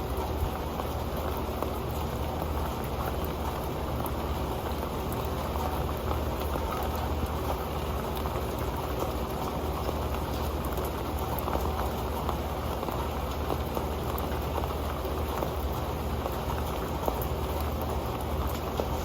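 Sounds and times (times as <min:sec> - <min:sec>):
rain pattering on a metal pan: 0:00.0 - 0:19.0.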